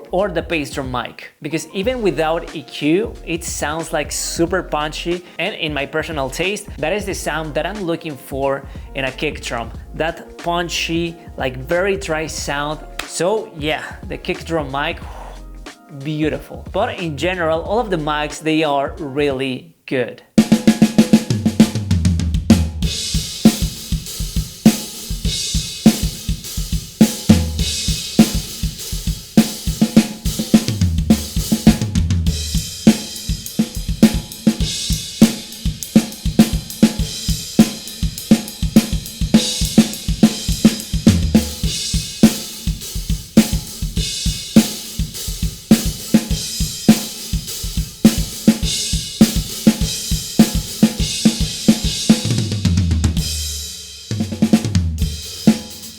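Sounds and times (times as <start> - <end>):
acoustic drum kit groove: 0.0 - 19.5, 20.4 - 55.9.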